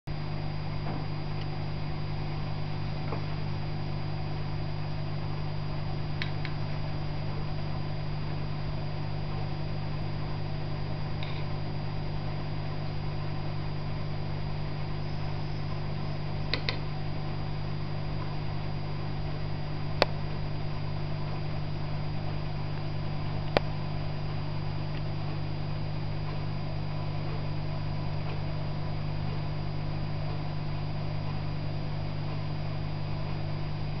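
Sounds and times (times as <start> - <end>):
aquarium pump humming: 0.1 - 34.0.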